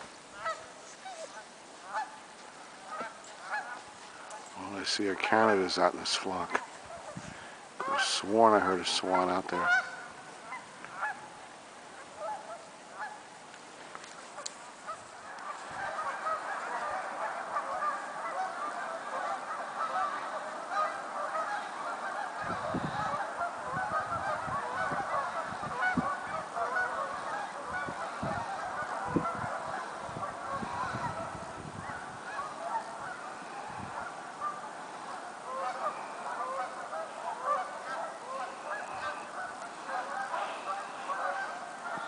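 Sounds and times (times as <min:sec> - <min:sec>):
geese honking: 0:00.0 - 0:13.3, 0:14.1 - 0:42.0.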